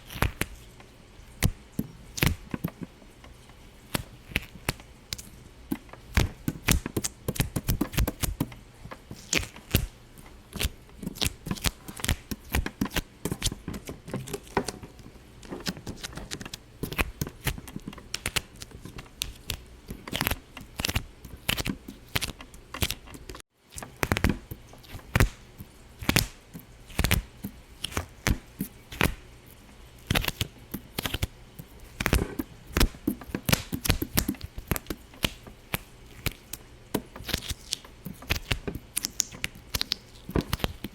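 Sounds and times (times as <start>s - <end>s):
sharp pops and clicks: 3.9s - 29.2s, 32.0s - 40.9s.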